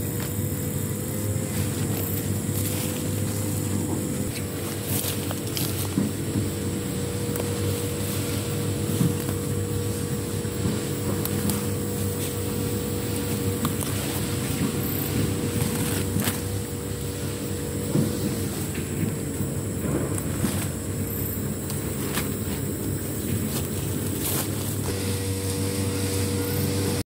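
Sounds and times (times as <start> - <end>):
low engine-like hum: 0.0 - 27.0.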